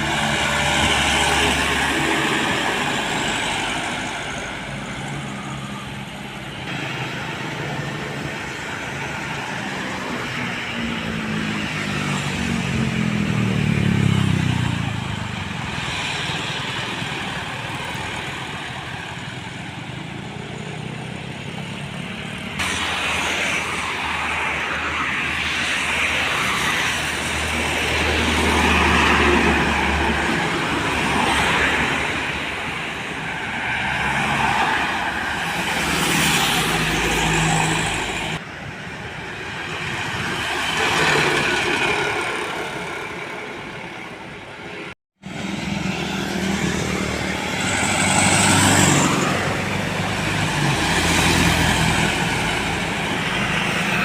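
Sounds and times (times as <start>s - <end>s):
trucks and buses driving past: 0.0s - 54.0s.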